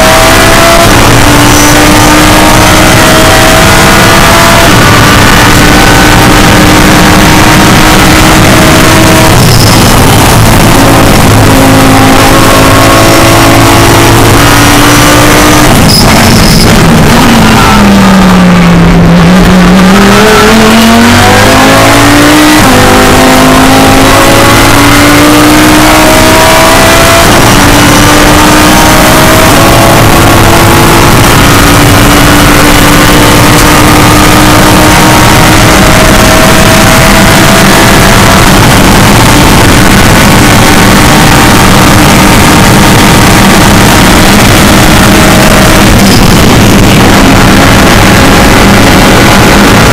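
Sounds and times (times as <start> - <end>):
race car engine revving with upshifts: 0.0 - 49.9.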